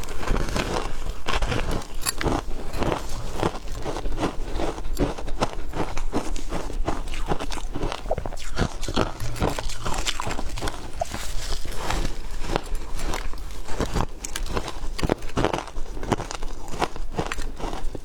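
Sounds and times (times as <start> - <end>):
chewing crunching ice: 0.0 - 18.0.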